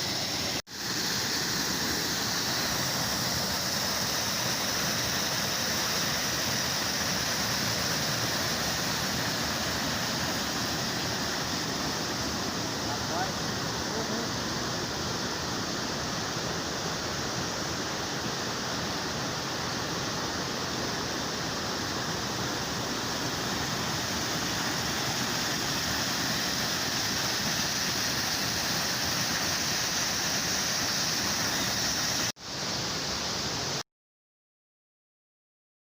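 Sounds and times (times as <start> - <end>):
flowing water rushing: 0.0 - 33.8.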